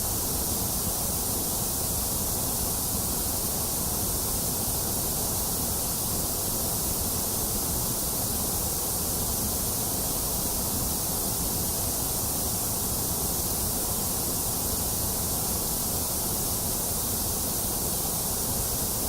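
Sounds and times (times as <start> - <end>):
white noise hiss: 0.0 - 19.0.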